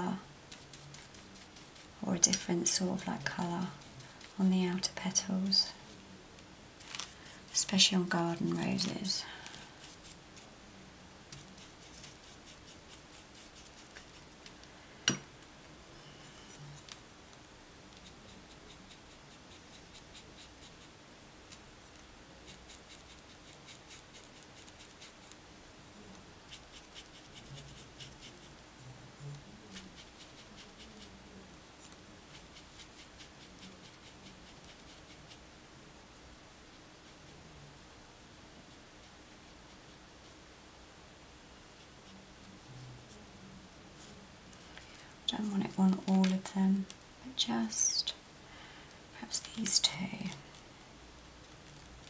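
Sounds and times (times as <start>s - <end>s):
paintbrush scratchy strokes on paper: 0.0s - 14.5s, 16.0s - 35.6s, 36.6s - 40.5s, 41.7s - 47.0s.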